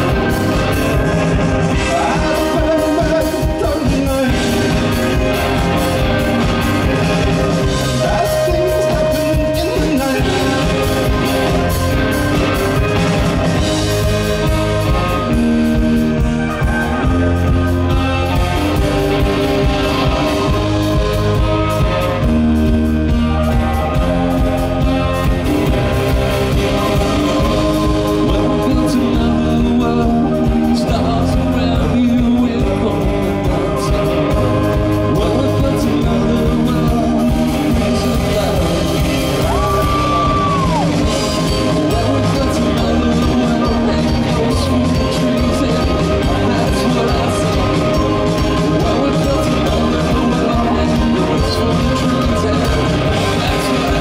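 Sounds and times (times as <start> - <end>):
man singing: 0.0 - 22.4, 25.2 - 54.0
drum kit: 0.0 - 54.0
electric guitar: 0.0 - 54.0.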